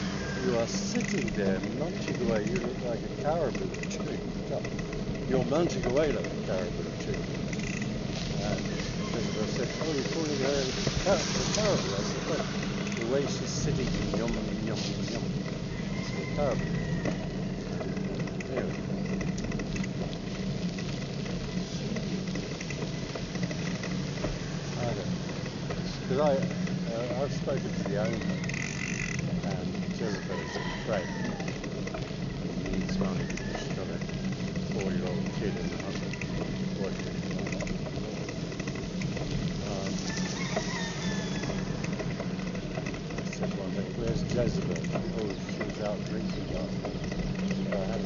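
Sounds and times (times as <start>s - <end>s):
road traffic hum: 0.0s - 48.0s.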